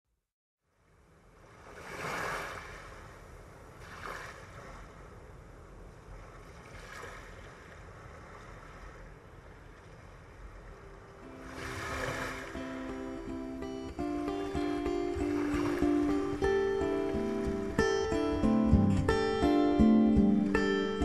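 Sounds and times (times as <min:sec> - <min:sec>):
low rumble of open water: 0:00.6 - 0:20.6
surf waves washing in: 0:00.8 - 0:21.0.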